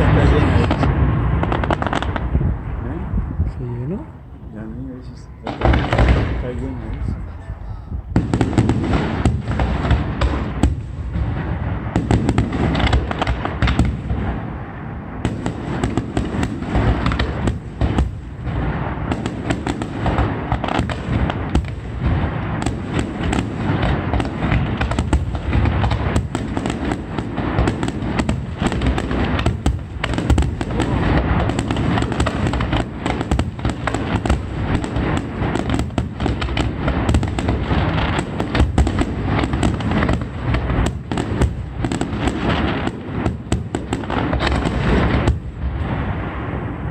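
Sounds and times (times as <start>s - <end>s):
firecracker crackle: 0.0s - 4.2s, 5.3s - 7.4s, 8.1s - 46.9s.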